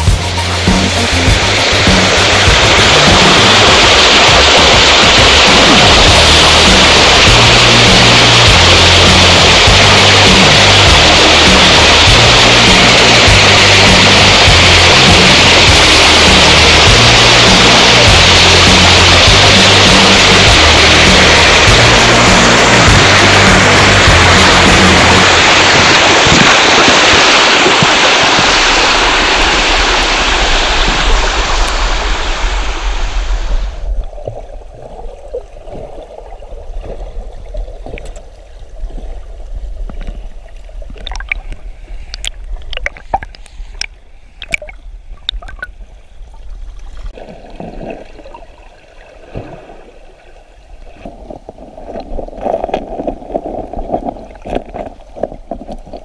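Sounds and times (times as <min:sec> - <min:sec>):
stream water rushing: 0:00.0 - 0:56.0
water gurgling over rocks: 0:00.6 - 0:56.0.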